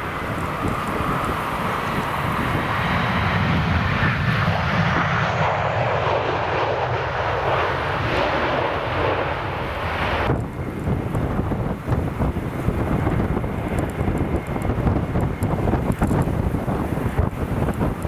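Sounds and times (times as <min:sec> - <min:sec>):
jet engines passing: 0:00.0 - 0:18.0.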